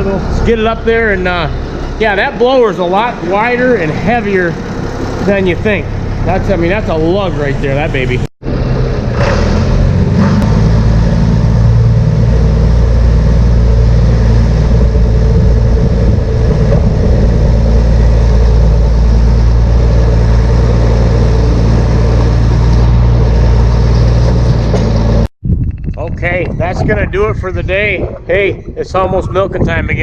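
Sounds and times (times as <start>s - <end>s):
farm machine engine running: 0.0s - 25.3s.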